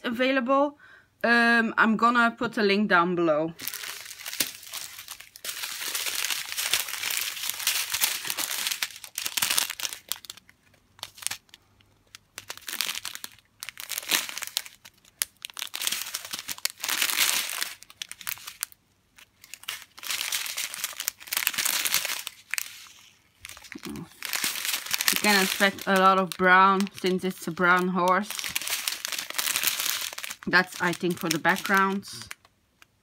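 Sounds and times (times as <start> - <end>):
plastic packaging crinkling: 3.6 - 33.0.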